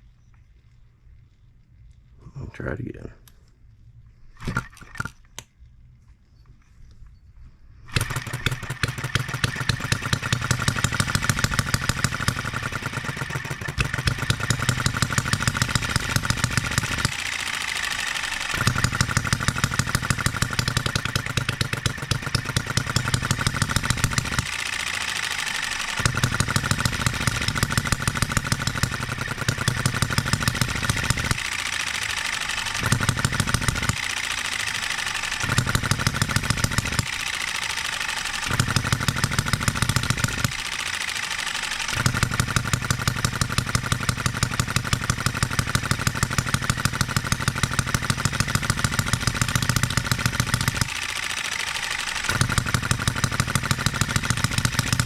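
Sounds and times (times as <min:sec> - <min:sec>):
model engine firing: 0:04.4 - 0:05.4, 0:07.9 - 0:55.0.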